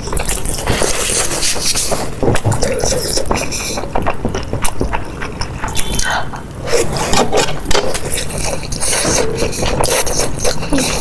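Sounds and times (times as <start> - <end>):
wet chewing and slurping: 0.0 - 11.0.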